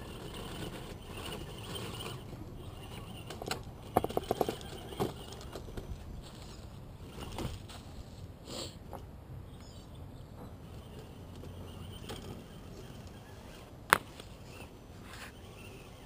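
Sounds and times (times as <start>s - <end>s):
rc truck drivetrain and tyres: 0.0s - 16.0s.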